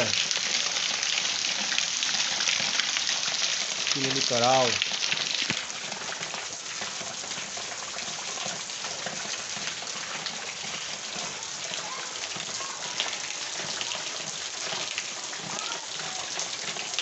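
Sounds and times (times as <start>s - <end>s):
light rain falling: 0.0s - 17.0s
water running off a roof: 0.0s - 17.0s.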